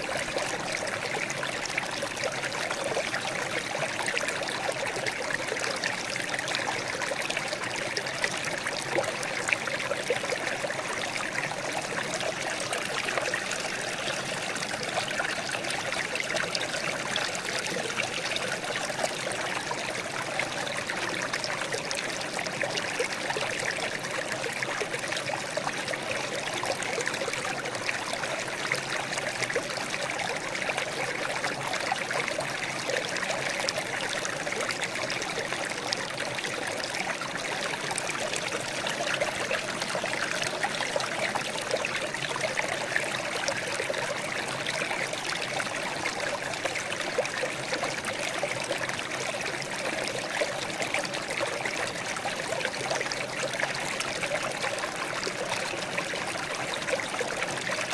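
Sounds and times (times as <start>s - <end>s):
water trickling and babbling: 0.0s - 57.9s.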